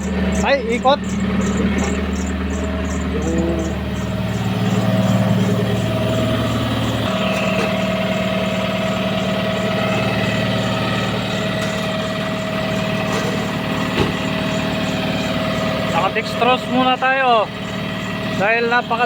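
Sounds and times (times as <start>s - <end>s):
diesel excavator engine running: 0.0s - 19.0s.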